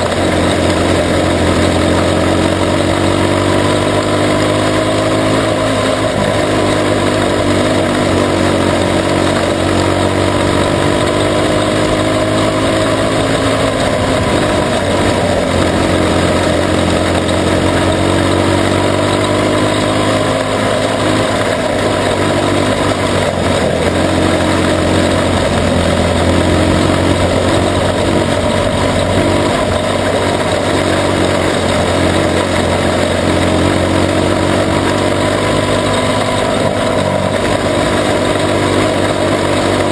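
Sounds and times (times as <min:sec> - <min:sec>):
race car engine running hard: 0:00.0 - 0:39.9
steady rushing noise: 0:00.0 - 0:39.9.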